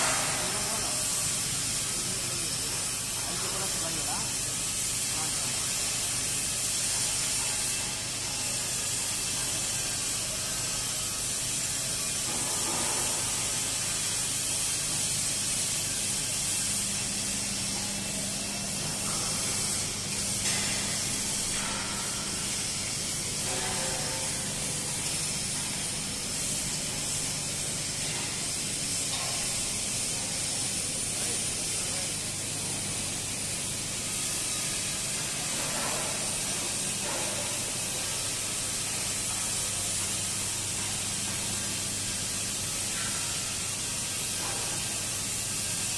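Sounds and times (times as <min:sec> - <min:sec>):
steady hissing: 0:00.0 - 0:45.9.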